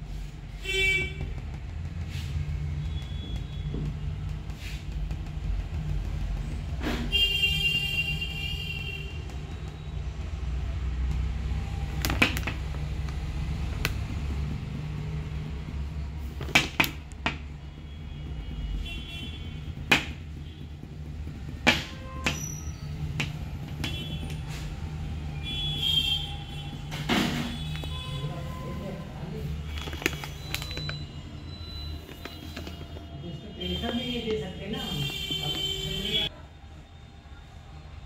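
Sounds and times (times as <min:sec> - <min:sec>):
sharp clicks and knocks: 0:01.1 - 0:28.3, 0:29.4 - 0:36.2.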